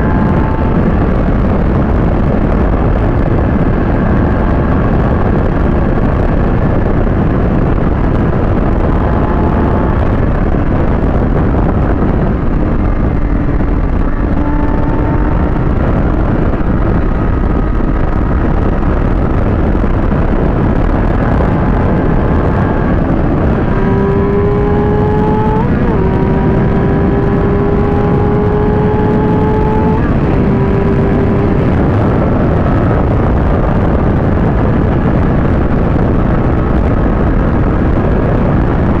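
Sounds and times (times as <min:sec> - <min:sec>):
heavy wind noise on microphone: 0:00.0 - 0:39.0
motorcycle engine: 0:00.0 - 0:39.0.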